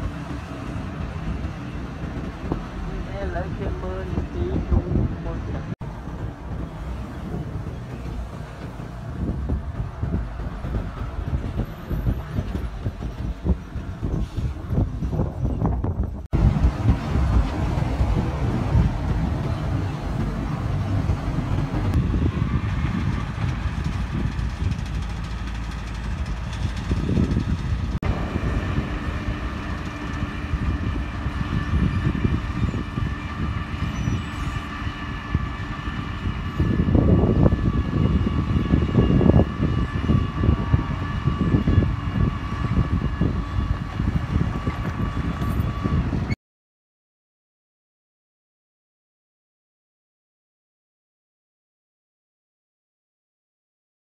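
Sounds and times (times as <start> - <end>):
bulldozer diesel engine running: 0.0 - 46.3
motorbike rumbling: 0.0 - 46.3
steel tracks clanking: 0.0 - 46.4
wind buffeting microphone: 0.0 - 46.4.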